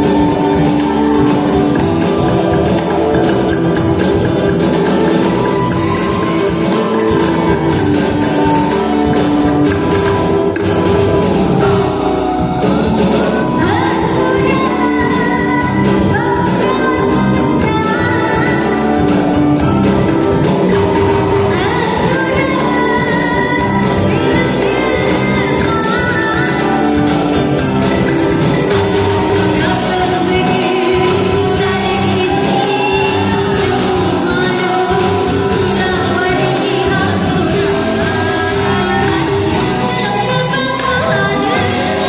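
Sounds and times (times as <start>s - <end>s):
gliding melody line: 0.0s - 42.0s.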